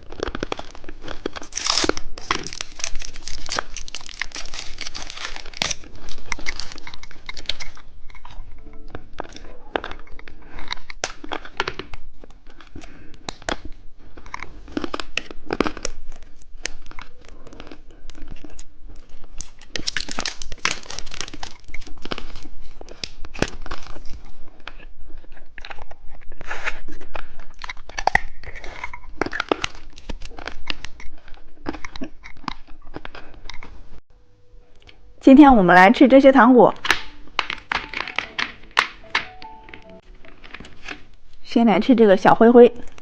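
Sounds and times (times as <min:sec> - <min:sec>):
plastic wrappers crinkling: 0:00.0 - 0:33.7, 0:36.7 - 0:41.5
candy crunching and chewing: 0:00.0 - 0:33.9, 0:36.7 - 0:41.4.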